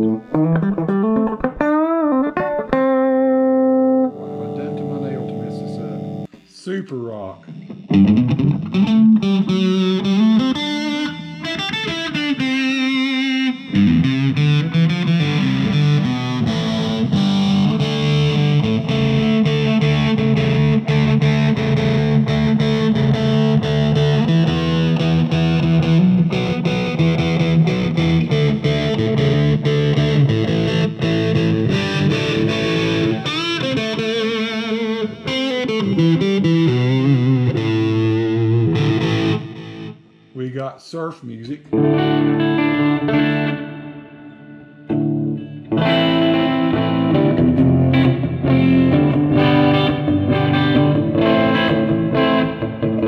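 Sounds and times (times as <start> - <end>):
distorted electric guitar chords: 0.0 - 6.6, 7.3 - 40.4, 41.7 - 53.0.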